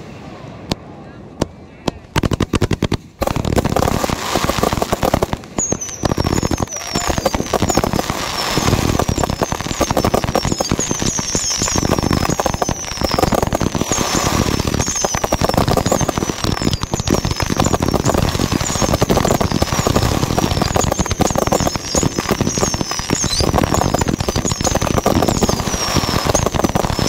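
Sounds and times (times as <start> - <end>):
fireworks bangs and crackling: 1.9 - 27.0
falling fireworks whistles: 2.2 - 27.0.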